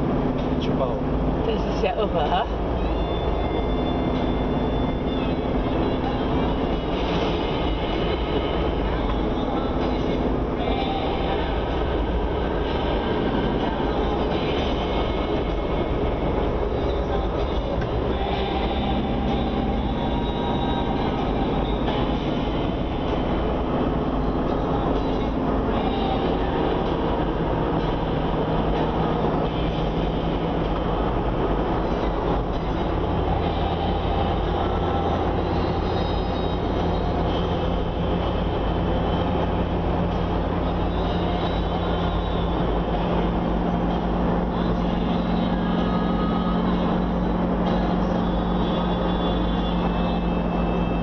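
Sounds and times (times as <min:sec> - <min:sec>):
car engine and tyre noise: 0:00.0 - 0:51.0.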